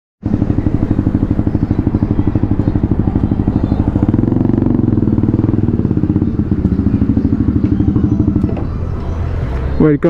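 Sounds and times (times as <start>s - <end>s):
motorcycle engine running: 0.2s - 10.0s.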